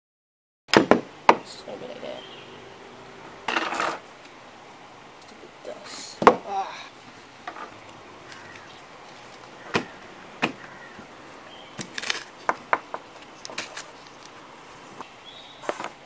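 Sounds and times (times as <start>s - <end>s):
low hiss: 0.7s - 16.0s.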